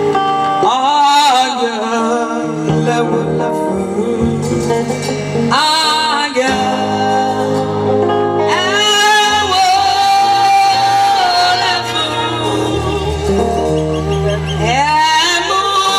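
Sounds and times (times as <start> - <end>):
woman singing gospel: 0.6 - 15.9.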